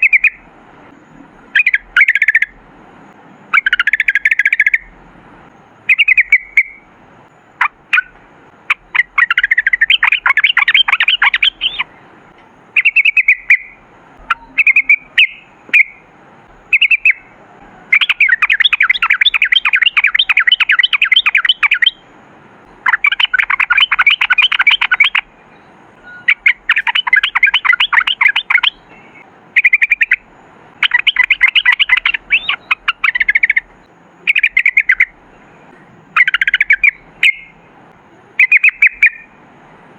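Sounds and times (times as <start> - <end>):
bird singing with rattling chatter: 0.0 - 2.6, 3.4 - 37.6, 38.3 - 39.4.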